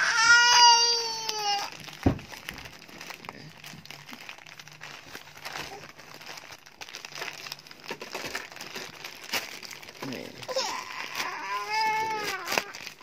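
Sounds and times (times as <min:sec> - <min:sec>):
plastic mailer bag crinkling: 0:00.0 - 0:13.0.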